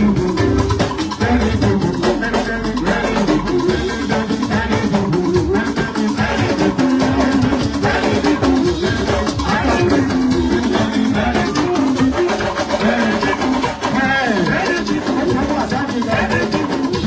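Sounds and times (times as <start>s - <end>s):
music with drums and shakers: 0.0s - 17.0s.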